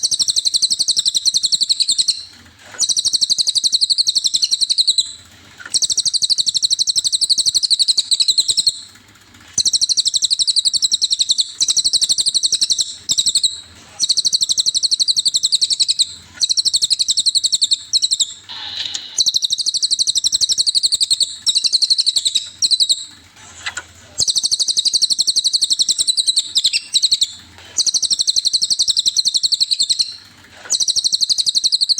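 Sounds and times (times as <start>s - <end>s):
nuthatch singing rapid high trills: 0.0s - 8.9s, 9.6s - 31.9s.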